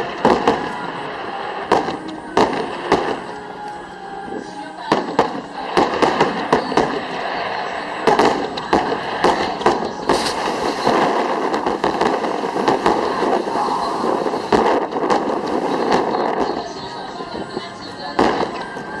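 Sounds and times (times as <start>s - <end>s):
fireworks bangs: 0.0s - 3.4s, 4.9s - 19.0s
fireworks crackle and hiss: 0.0s - 3.8s, 4.9s - 17.6s.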